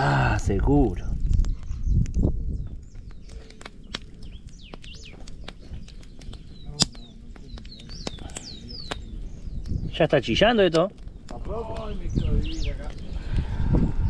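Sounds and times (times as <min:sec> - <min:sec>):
wood fire crackling: 0:00.0 - 0:14.0
small birds chirping: 0:00.2 - 0:14.0.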